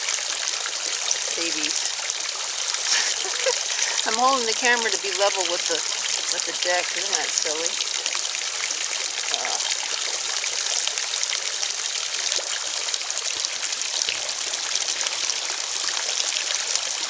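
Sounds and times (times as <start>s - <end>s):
waterfall splashing into pond: 0.0s - 17.0s.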